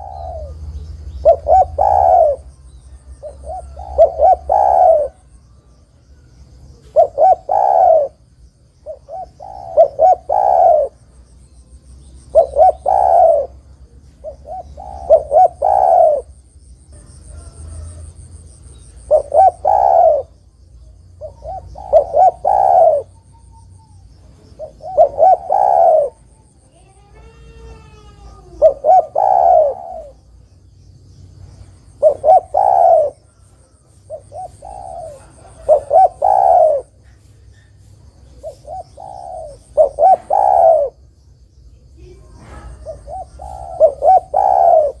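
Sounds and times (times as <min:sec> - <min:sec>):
dove cooing: 0:00.0 - 0:05.8, 0:06.7 - 0:08.2, 0:08.8 - 0:11.1, 0:12.2 - 0:20.4, 0:21.1 - 0:30.4, 0:31.8 - 0:41.0, 0:42.0 - 0:45.0.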